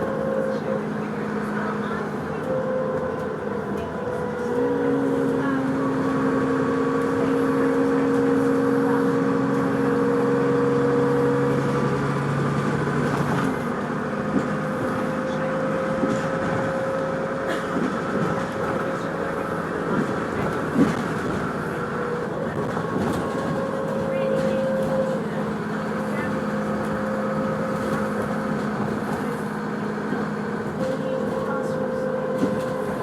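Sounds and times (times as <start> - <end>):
vehicle running: 0.0 - 33.0.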